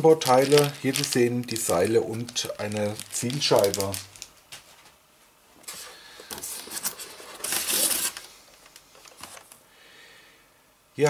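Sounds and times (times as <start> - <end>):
packaging rustling and scraping: 0.0 - 4.9, 5.6 - 9.6.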